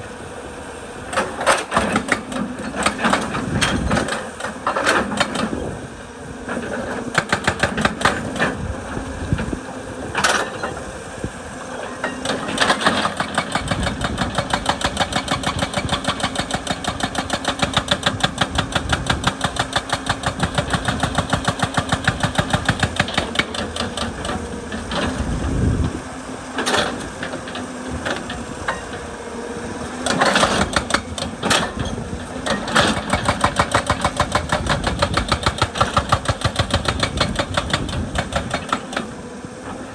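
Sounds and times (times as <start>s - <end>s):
diesel engine running: 0.0s - 39.9s
hydraulic rock breaker hammering: 1.0s - 39.9s.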